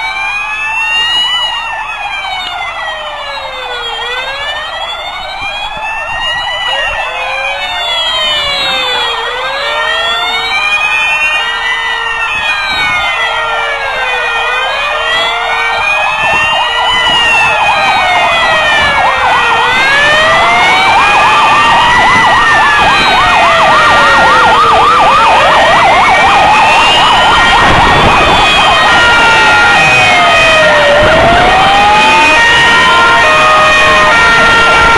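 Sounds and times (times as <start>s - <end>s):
fast yelping siren: 0.0s - 34.9s
truck engines rumbling: 0.0s - 34.9s
wailing sirens: 0.0s - 34.9s.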